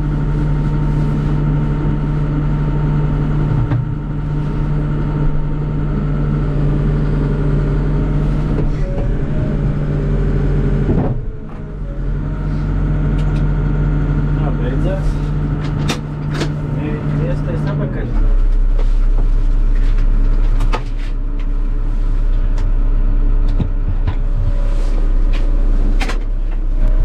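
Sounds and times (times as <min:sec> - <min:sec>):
diesel engine under hydraulic load: 0:00.0 - 0:27.0.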